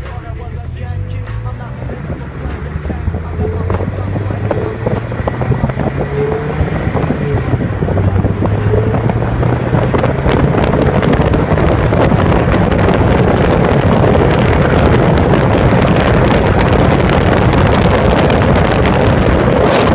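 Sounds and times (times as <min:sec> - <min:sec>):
car engine droning: 0:00.0 - 0:19.9
wind buffeting microphone: 0:01.6 - 0:19.9.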